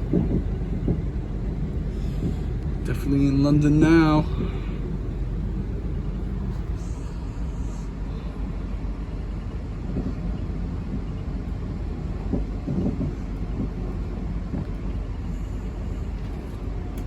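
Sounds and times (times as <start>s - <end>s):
electric train rumbling inside carriage: 0.0s - 17.0s.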